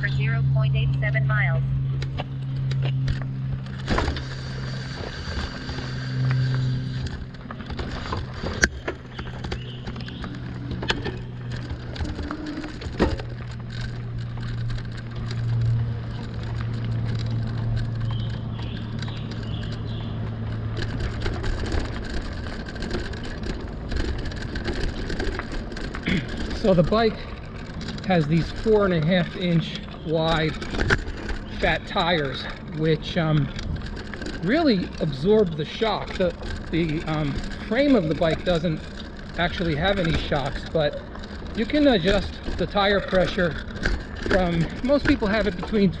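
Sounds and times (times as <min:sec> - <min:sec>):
bike rattling on rough trail: 0:00.0 - 0:46.0
electric bike motor hum: 0:00.0 - 0:46.0.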